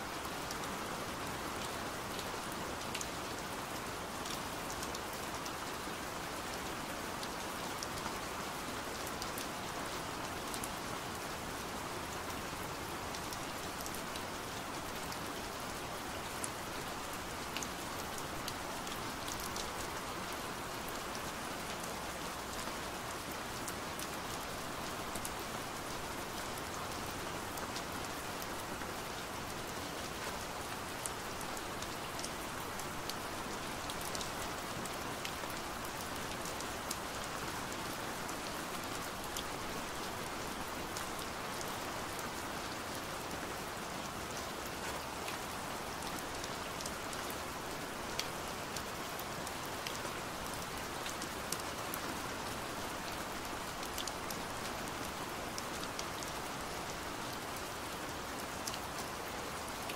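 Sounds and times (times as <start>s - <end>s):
rain pattering on a window: 0.0s - 59.9s.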